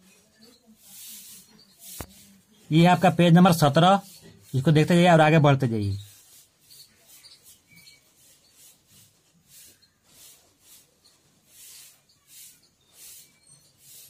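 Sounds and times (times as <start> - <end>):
soft rustling scrapes: 0.0 - 14.0.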